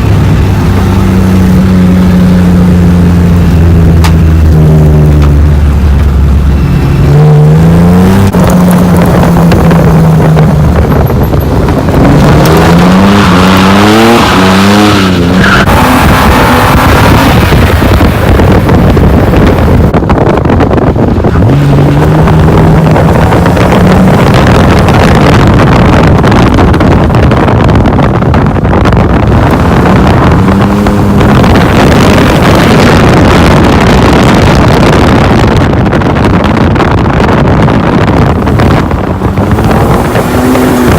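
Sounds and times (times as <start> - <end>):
car engine revving hard: 0.0 - 40.9
loud rushing noise: 0.0 - 40.9.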